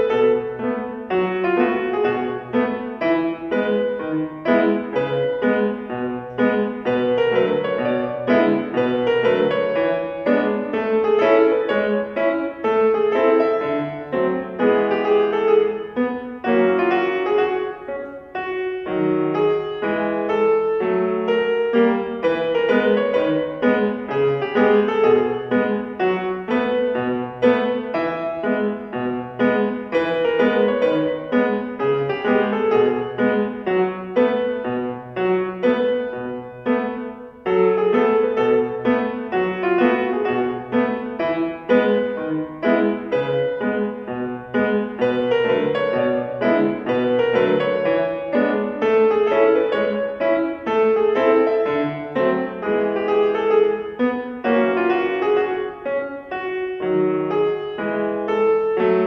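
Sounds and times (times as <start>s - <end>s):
solo piano playing: 0.0s - 59.0s.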